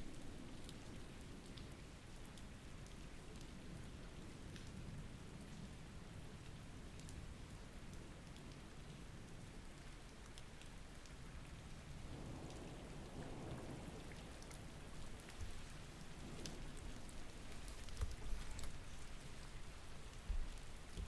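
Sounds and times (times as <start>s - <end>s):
soft steady rain: 0.0s - 21.0s
raindrop ticks: 0.6s - 4.8s, 6.4s - 21.0s.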